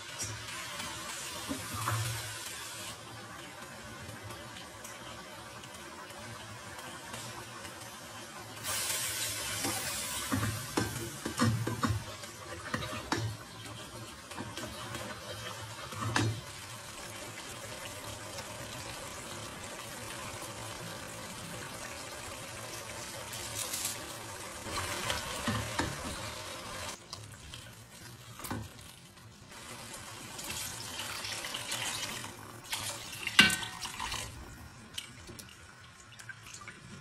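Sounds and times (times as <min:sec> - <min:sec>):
chicken sizzling in a pot: 0:00.0 - 0:34.9.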